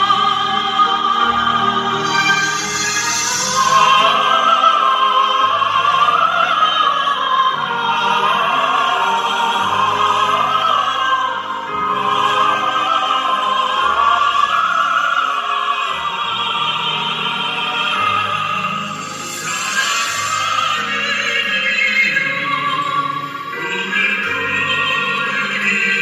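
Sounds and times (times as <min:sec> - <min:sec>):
operatic duet singing: 0:00.0 - 0:26.0
orchestral accompaniment: 0:00.0 - 0:26.0.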